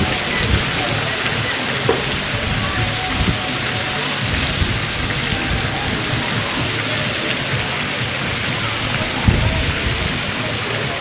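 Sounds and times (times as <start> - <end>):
rain-like water hiss: 0.0 - 11.0.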